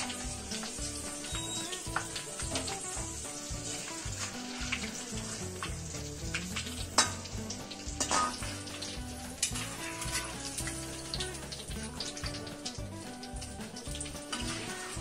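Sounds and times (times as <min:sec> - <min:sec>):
leaves sizzling in hot oil: 0:00.0 - 0:15.0.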